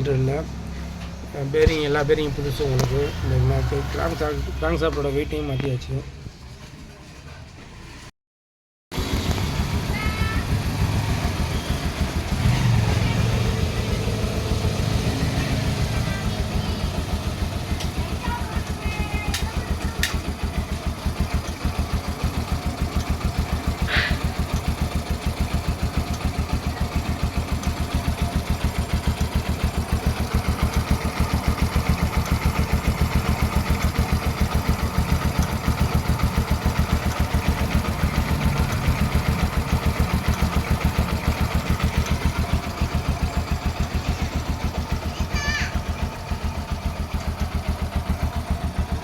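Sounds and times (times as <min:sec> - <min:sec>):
motorcycle engine idling: 0:09.0 - 0:49.0.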